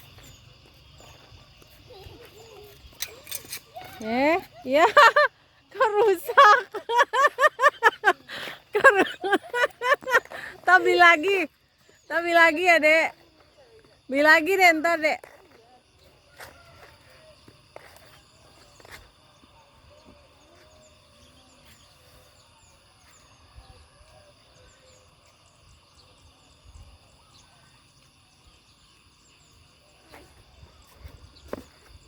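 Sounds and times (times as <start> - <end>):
small birds chirping: 0.0 - 14.6, 15.2 - 32.0.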